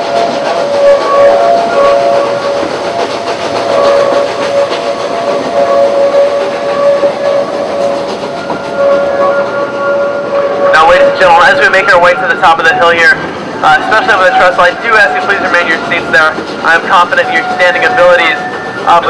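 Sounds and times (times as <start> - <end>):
train rumbling and clattering: 0.0 - 19.0
train wheels squealing on rails: 0.0 - 19.0.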